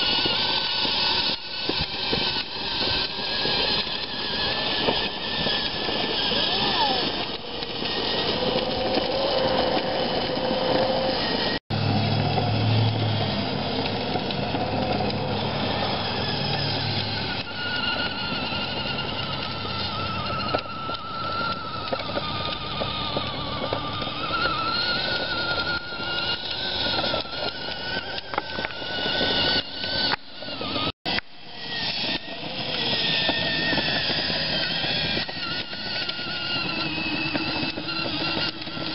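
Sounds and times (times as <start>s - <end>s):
electric toy motor whining: 0.0s - 38.9s.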